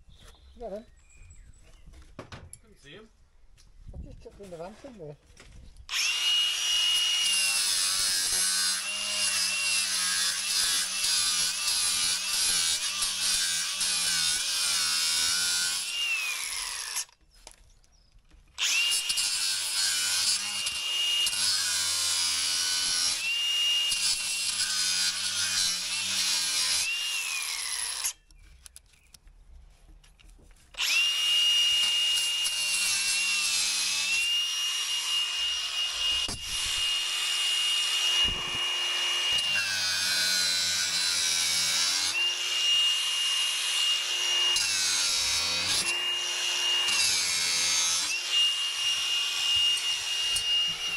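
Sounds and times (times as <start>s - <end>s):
angle grinder whining: 5.9s - 17.2s, 18.6s - 28.4s, 30.7s - 50.9s.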